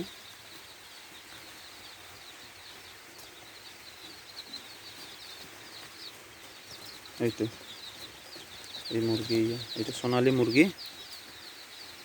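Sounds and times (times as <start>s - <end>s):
chicks peeping: 0.0s - 12.0s
low hiss: 0.0s - 12.0s.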